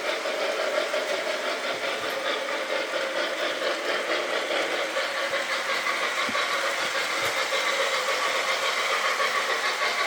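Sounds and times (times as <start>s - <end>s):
model trains whirring on track: 0.0s - 10.0s.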